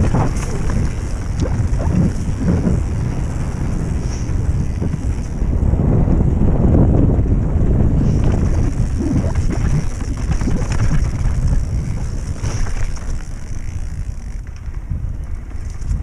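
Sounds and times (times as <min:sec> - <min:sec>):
bike tyres crunching over stones: 0:00.0 - 0:16.0
wind buffeting microphone: 0:00.0 - 0:16.0.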